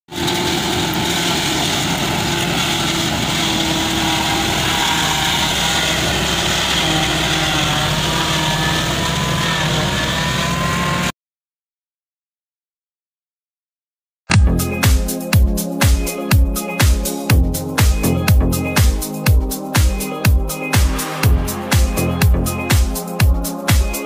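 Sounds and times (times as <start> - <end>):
grass cutting machine engine running: 0.1 - 11.0, 14.3 - 24.0.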